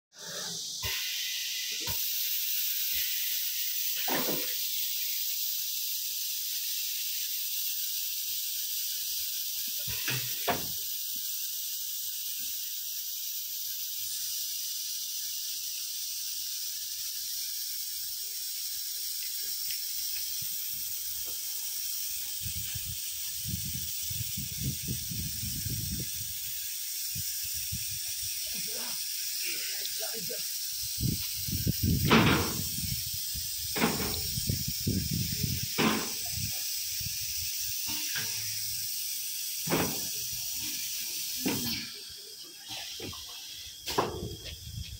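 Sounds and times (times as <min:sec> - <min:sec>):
compressed air hiss: 0:00.1 - 0:44.9.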